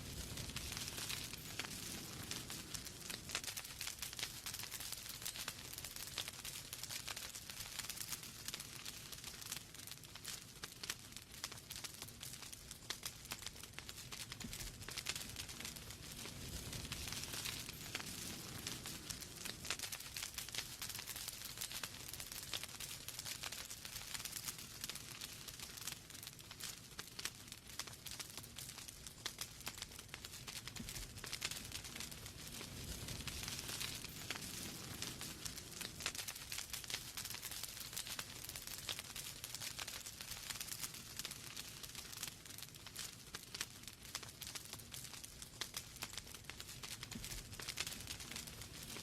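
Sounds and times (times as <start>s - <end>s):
logs burning and crackling: 0.0s - 49.0s
soft fire hiss: 0.0s - 49.0s.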